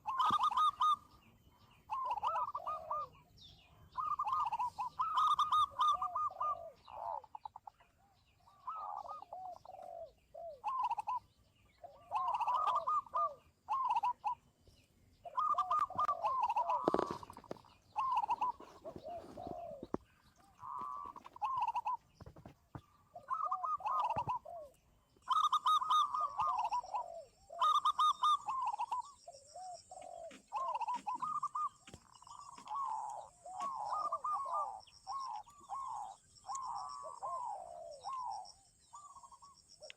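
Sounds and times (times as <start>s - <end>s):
doves cooing: 0.0s - 14.5s, 15.2s - 39.9s.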